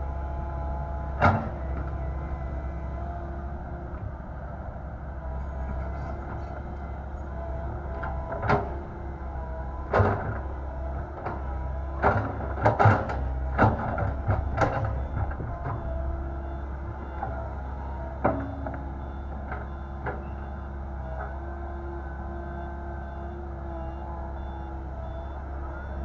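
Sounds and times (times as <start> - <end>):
excavator running: 0.0 - 26.0.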